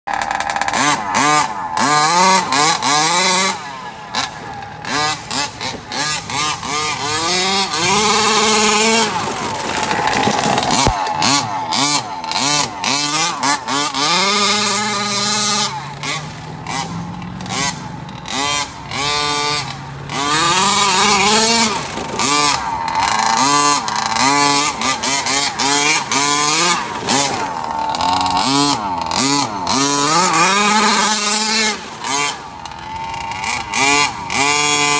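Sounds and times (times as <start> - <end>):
small two-stroke engine revving: 0.1 - 34.9.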